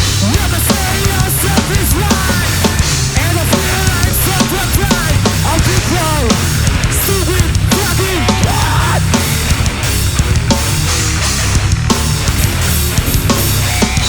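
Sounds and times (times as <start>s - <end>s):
loud heavy band playing live: 0.0s - 14.0s.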